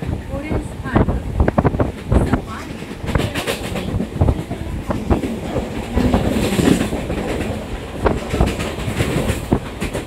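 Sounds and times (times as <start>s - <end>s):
train rumble: 0.0s - 10.0s
wheels clattering over track: 1.8s - 10.0s.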